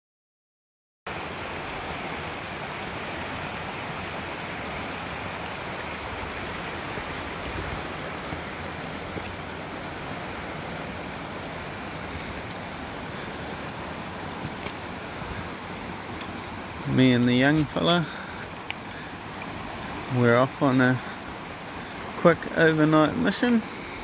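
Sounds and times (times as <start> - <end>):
river water rushing: 1.1 - 24.0.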